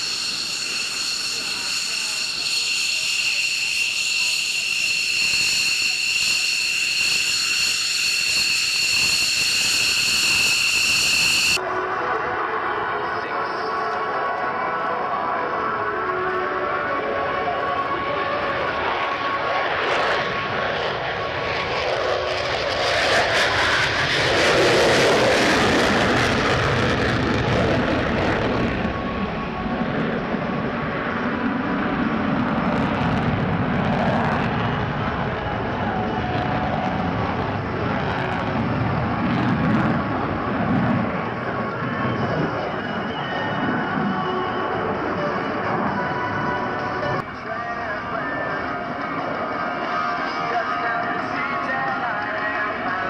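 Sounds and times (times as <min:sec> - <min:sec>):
aircraft turbine engine whining: 0:00.0 - 0:53.0.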